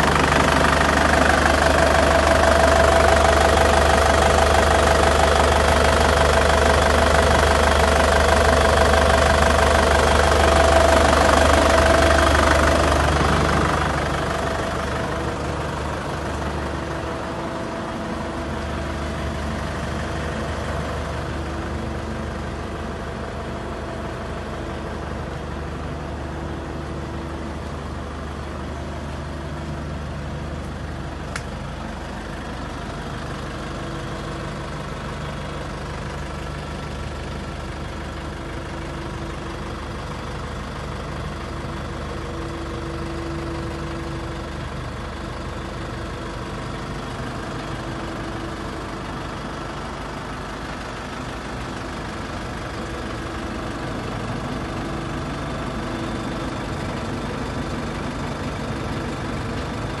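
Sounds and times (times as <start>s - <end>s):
diesel engine idling: 0.0s - 60.0s.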